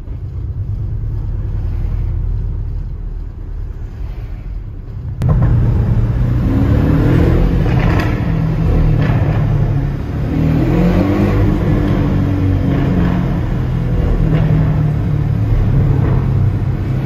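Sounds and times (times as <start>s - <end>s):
car engine accelerating in tunnel: 0.0s - 17.0s
exhaust pops: 0.0s - 17.0s.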